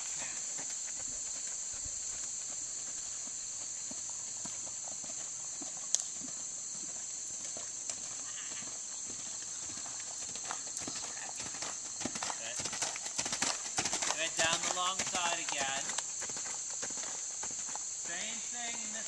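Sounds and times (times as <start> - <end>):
horse hooves trotting on gravel: 0.0 - 19.0
steady high hiss: 0.0 - 19.0.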